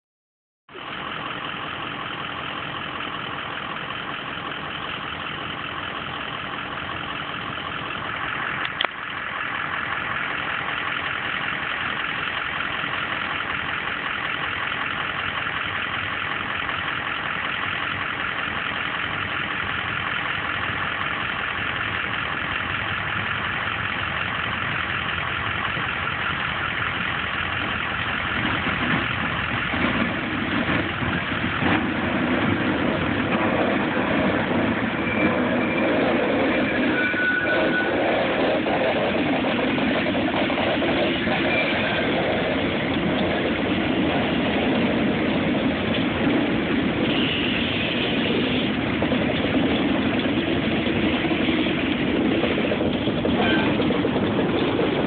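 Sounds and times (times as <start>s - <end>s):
locomotive engine running: 0.7s - 55.0s.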